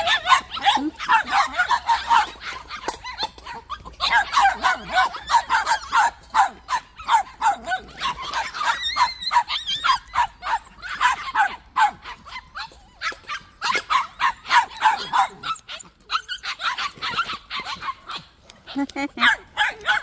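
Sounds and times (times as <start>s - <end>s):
young dogs yapping: 0.0s - 20.0s.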